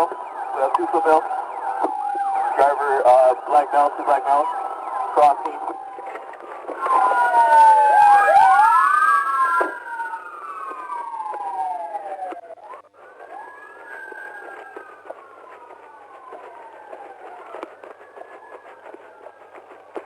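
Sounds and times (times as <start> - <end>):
police sirens wailing: 0.0 - 20.0.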